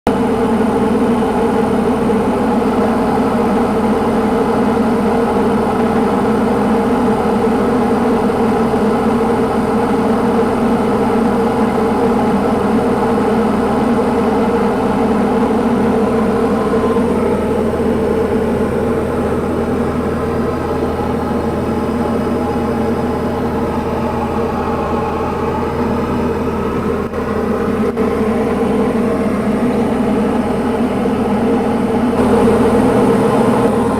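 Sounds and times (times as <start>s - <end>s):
aircraft engine and propeller droning: 0.1s - 33.9s.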